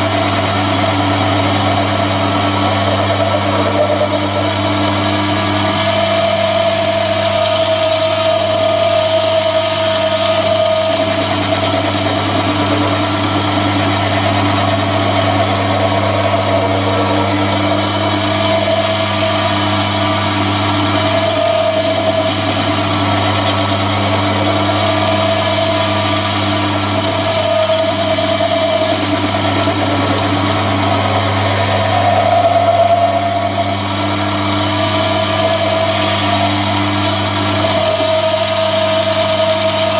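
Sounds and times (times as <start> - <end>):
lathe tool cutting metal: 0.0 - 39.9
metal lathe motor humming: 0.0 - 39.9.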